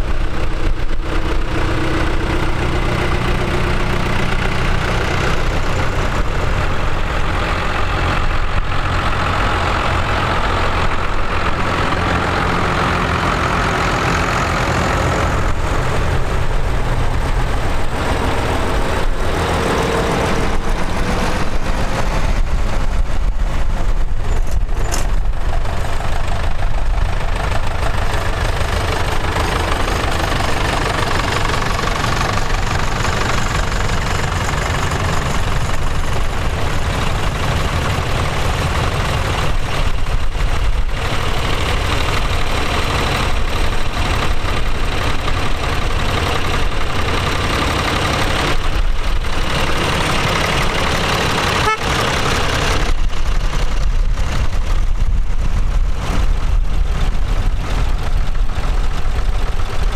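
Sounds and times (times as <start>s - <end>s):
tractor diesel engines passing: 0.0s - 59.9s.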